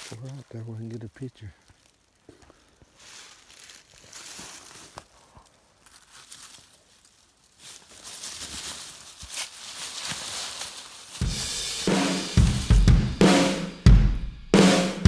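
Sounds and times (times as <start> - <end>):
deer dragged across forest floor: 0.0 - 12.6
footsteps on dry leaves: 0.0 - 13.5.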